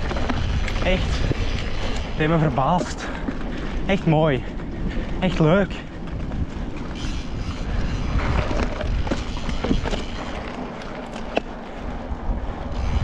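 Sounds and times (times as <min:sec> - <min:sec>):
bike clicks and rattles: 0:00.0 - 0:13.0
bike tyres on gravel: 0:00.0 - 0:13.0
wind buffeting a microphone: 0:00.0 - 0:13.0.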